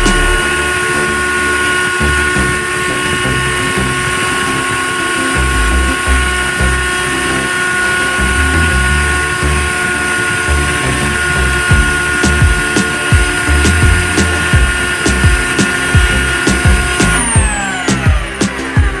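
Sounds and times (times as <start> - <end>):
electric drill whining: 0.0 - 19.0.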